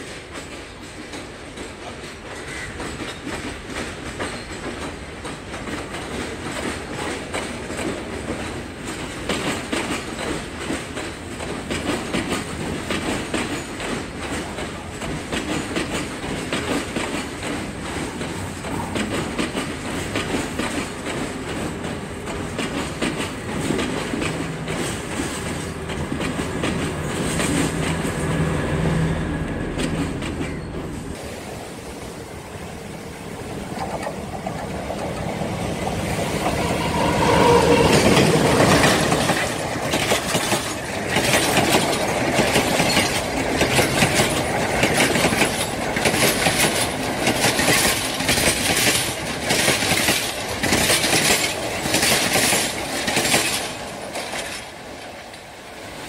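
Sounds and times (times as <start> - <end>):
wheels clacking over rail joints: 0.0 - 31.7, 32.8 - 56.0
train rumbling past: 0.0 - 56.0.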